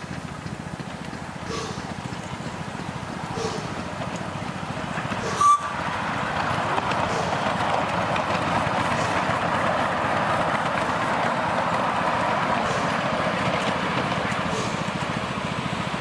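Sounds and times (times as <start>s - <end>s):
miniature steam train rumbling: 0.0s - 16.0s.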